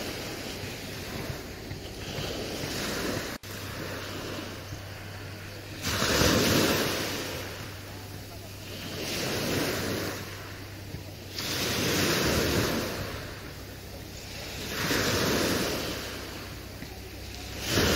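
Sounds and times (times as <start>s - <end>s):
sea waves washing in: 0.0s - 17.9s
faint low hum: 3.4s - 17.9s.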